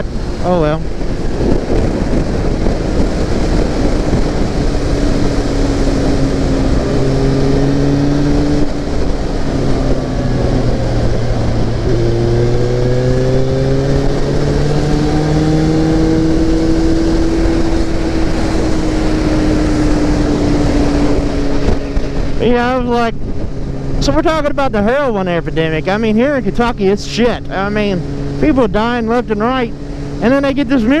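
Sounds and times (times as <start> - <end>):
motorcycle engine running: 0.0 - 31.0
wind rush on microphone: 0.0 - 31.0.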